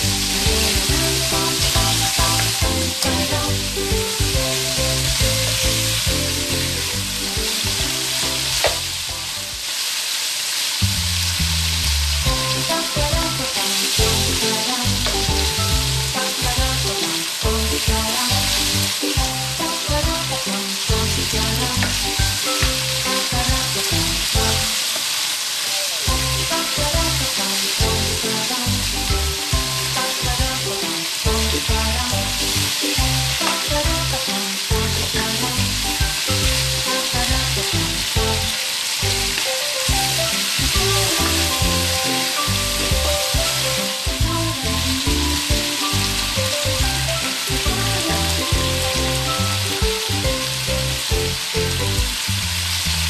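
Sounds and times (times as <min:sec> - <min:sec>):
background music: 0:00.0 - 0:09.7, 0:12.2 - 0:25.0, 0:26.1 - 0:52.8
ribs sizzling in a wok: 0:00.0 - 0:53.0.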